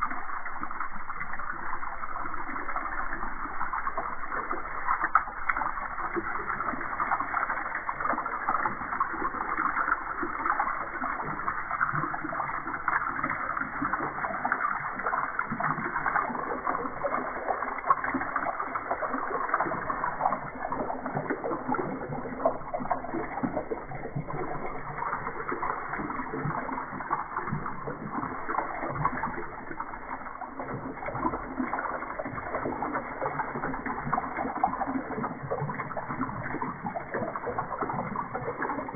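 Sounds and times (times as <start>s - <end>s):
water splashing into metal tub: 0.0s - 38.9s.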